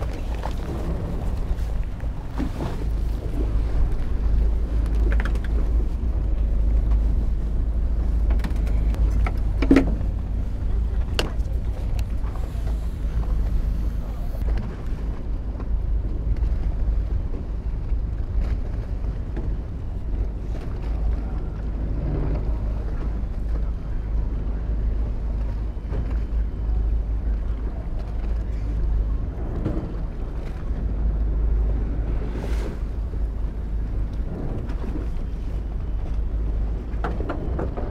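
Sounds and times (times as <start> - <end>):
steady low rumble: 0.0 - 37.9
wind buffeting microphone: 0.0 - 37.9.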